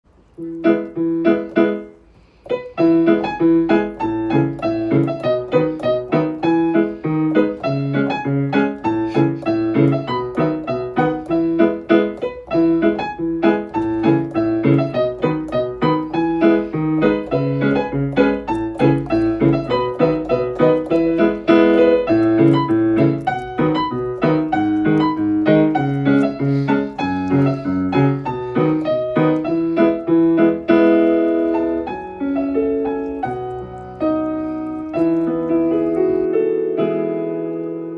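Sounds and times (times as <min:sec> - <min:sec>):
piano music: 0:00.1 - 0:37.9.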